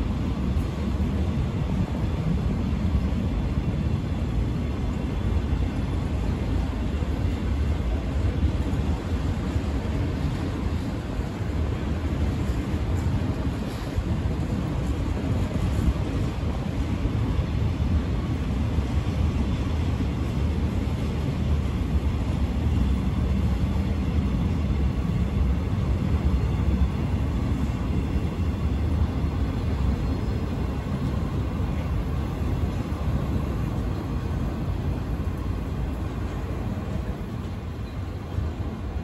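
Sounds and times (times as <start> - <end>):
freight train rumbling past: 0.0 - 39.0.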